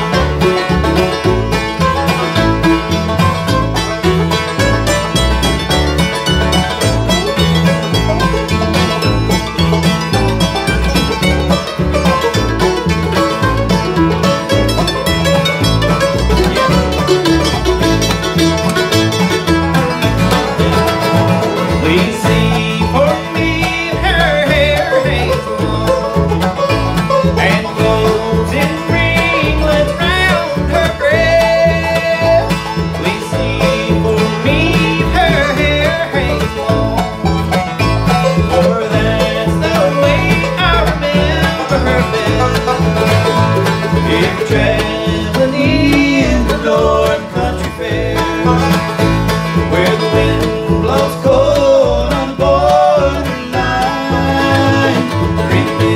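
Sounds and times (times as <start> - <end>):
banjo rolls: 0.0 - 55.9
bluegrass band playing: 0.0 - 55.9.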